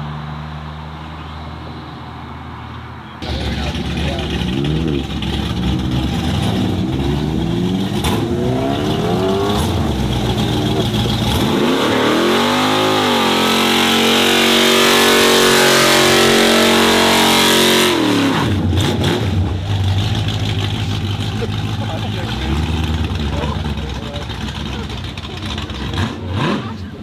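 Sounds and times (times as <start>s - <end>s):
car engine revving: 3.2s - 27.0s.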